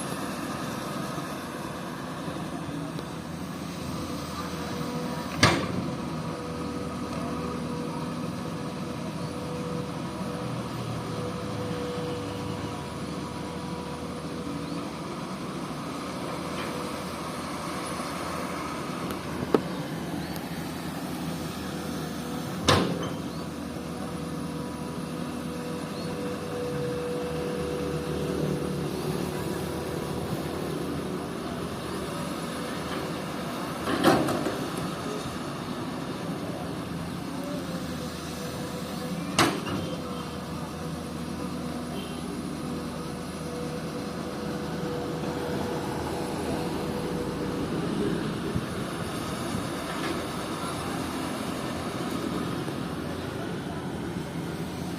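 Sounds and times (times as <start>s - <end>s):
excavator engine humming: 0.0s - 54.9s.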